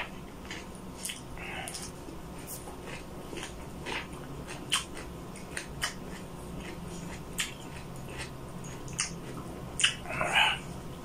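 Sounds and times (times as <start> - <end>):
person chewing with wet smacks: 0.0 - 11.0
steady low hum: 0.0 - 11.0.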